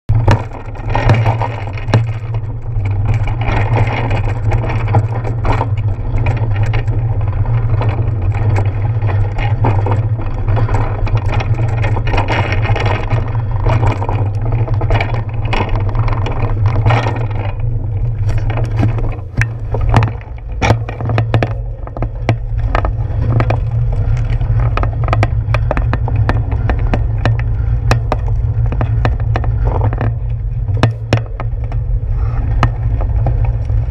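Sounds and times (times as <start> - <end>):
bicycle clicks and rattles: 0.1 - 33.9
road rumble: 0.1 - 33.9.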